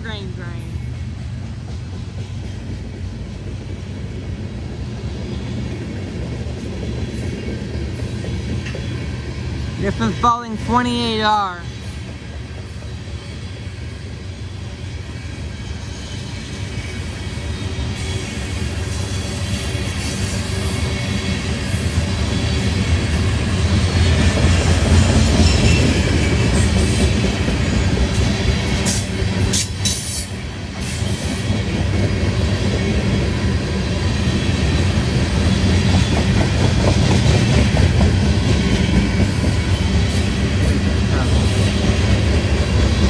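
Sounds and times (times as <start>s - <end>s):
train wheels rumbling on rail: 0.0s - 43.0s
clickety-clack over rail joints: 0.6s - 43.0s.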